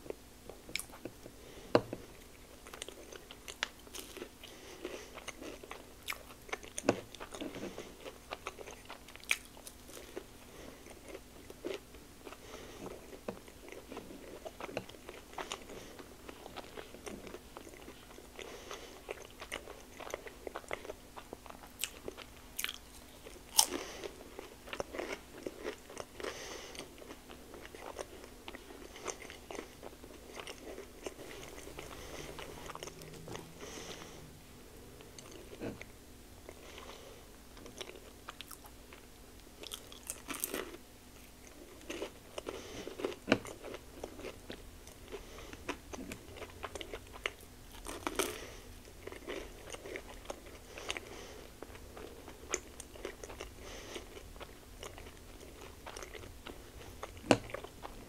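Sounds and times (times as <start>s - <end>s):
crunchy bites and chewing: 1.8s - 34.2s, 37.6s - 58.0s.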